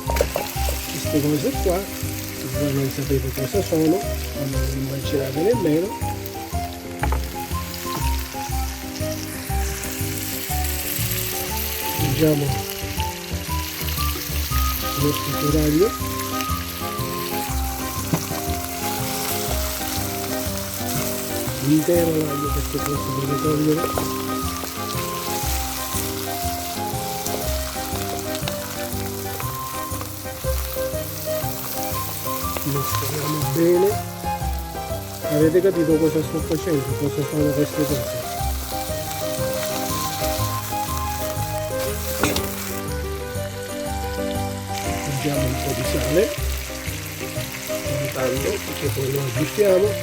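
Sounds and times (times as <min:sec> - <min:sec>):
background music: 0:00.0 - 0:50.0
onion sizzling in oil: 0:00.0 - 0:50.0.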